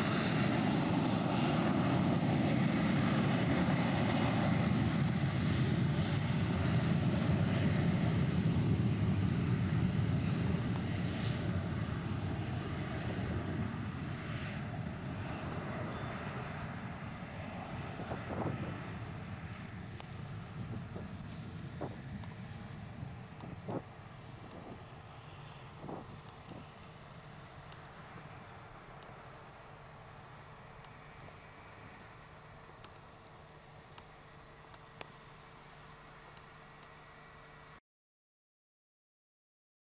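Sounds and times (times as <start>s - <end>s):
jet engine rumble: 0.0s - 37.8s.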